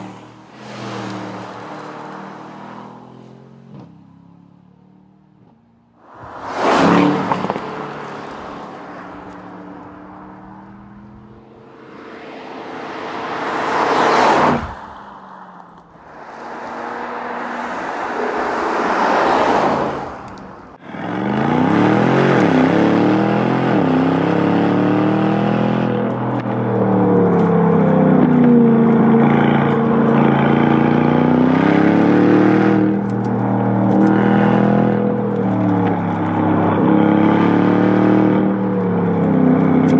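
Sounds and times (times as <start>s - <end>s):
car engine driving: 0.0s - 39.9s.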